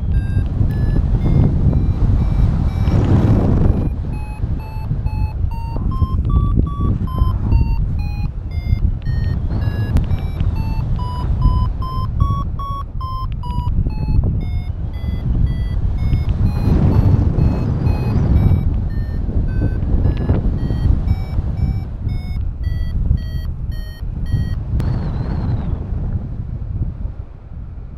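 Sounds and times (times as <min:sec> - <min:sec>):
variometer short beeps: 0:00.0 - 0:24.8
wind on microphone: 0:00.0 - 0:27.9.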